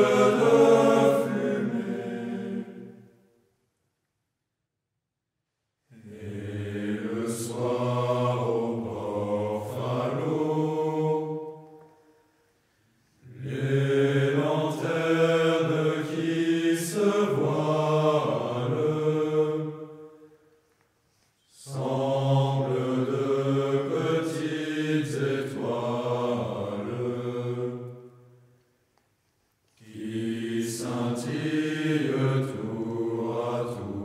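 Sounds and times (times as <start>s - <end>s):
choir singing in low voices: 0.0s - 3.4s, 5.9s - 12.2s, 13.2s - 20.5s, 21.5s - 28.6s, 29.8s - 34.0s.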